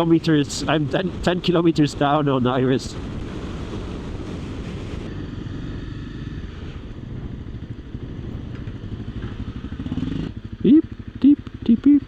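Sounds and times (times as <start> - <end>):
wind noise: 0.0 - 10.3
motorcycle engine running: 0.0 - 12.0.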